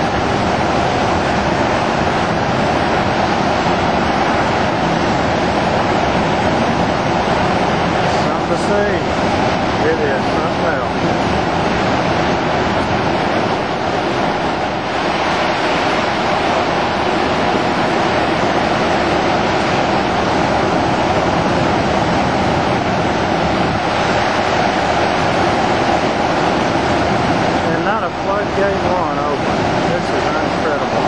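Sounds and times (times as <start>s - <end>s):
whitewater rushing: 0.0s - 31.0s.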